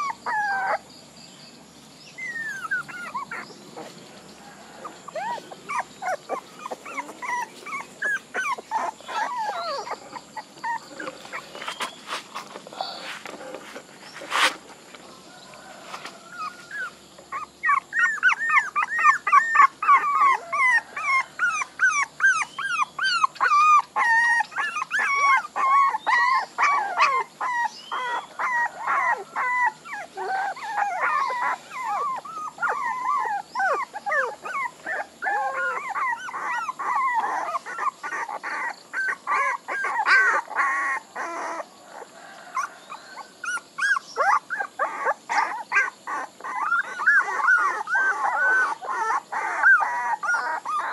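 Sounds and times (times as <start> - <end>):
puppies whining and yelping: 0.0 - 0.9, 2.1 - 50.9.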